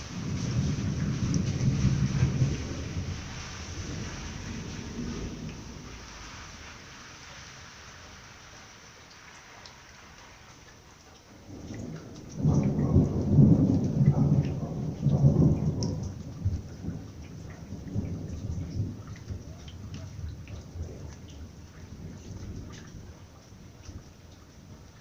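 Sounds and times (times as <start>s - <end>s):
thunder rumbling: 0.0s - 7.1s, 11.4s - 25.0s
rain with scattered drops: 0.0s - 25.0s.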